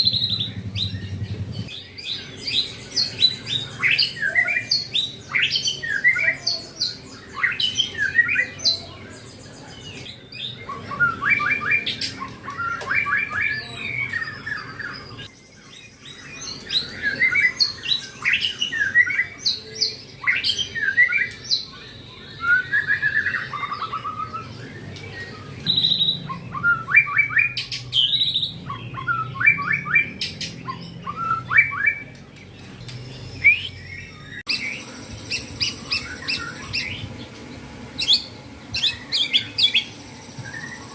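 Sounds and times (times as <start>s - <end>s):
songbird singing varied phrases: 0.0s - 40.9s.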